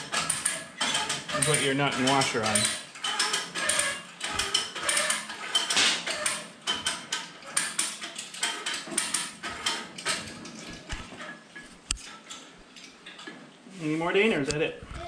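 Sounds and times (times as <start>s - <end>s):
metallic clicking and rattling: 0.0s - 13.4s.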